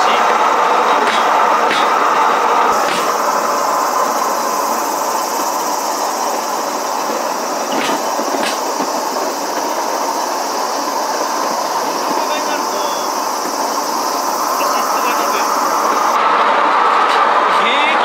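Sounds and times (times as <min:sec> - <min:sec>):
wheels clacking over rail joints: 0:00.0 - 0:18.0
wheels rumbling on railway track: 0:00.0 - 0:18.0.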